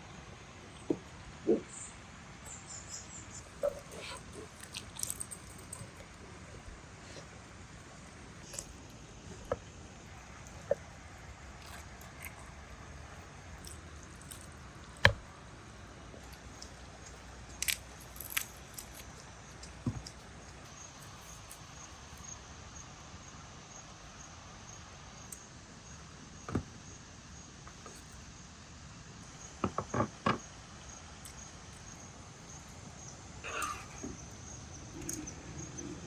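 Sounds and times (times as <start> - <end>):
cricket trilling: 0.7 - 26.2, 29.2 - 36.0.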